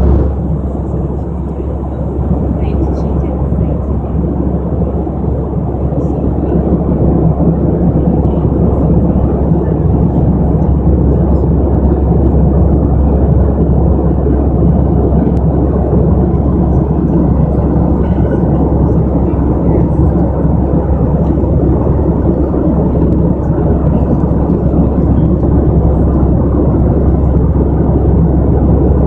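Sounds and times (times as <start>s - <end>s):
airliner cabin drone: 0.0s - 29.0s.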